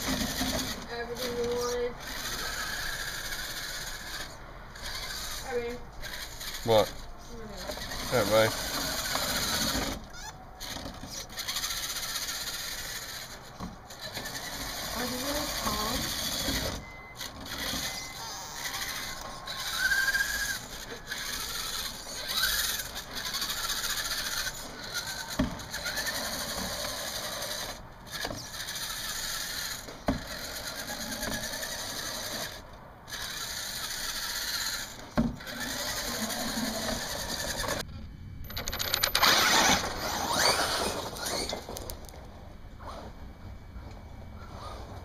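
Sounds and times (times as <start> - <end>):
small electric motor whirring: 0.0 - 37.9, 39.1 - 43.1.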